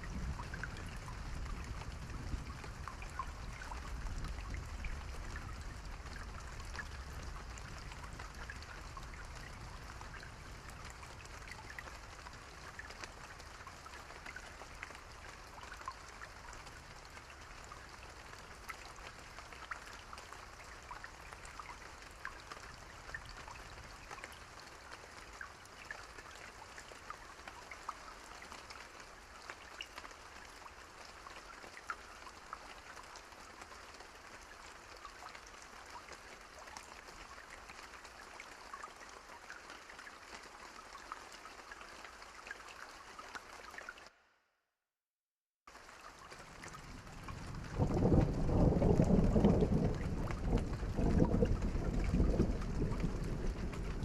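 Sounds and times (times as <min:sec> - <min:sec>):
steady rain falling: 0:00.0 - 0:44.2, 0:45.7 - 0:54.0
raindrops pattering close by: 0:00.0 - 0:44.3, 0:45.7 - 0:54.0.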